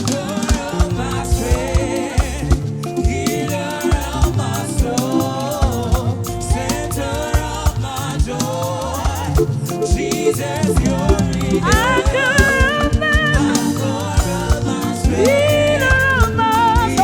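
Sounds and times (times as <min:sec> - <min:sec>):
drum beat: 0:00.0 - 0:17.0
gospel band playing: 0:00.0 - 0:17.0
person singing: 0:00.0 - 0:17.0.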